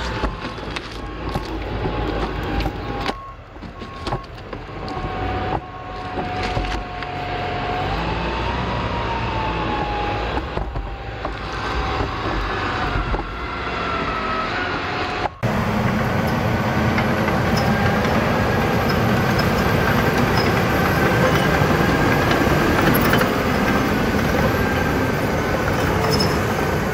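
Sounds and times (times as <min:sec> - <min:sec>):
tracked machine engine running: 0:00.0 - 0:26.9.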